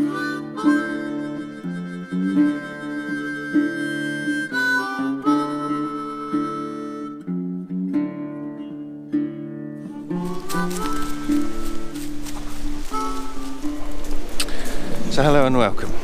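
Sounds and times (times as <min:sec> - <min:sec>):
instrumental music: 0:00.0 - 0:15.1.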